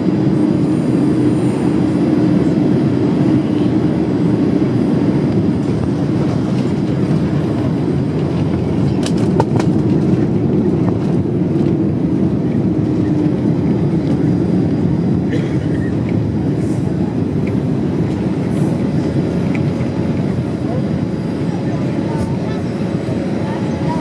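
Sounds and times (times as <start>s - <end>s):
aircraft wheels and engines rumbling: 0.0s - 24.0s.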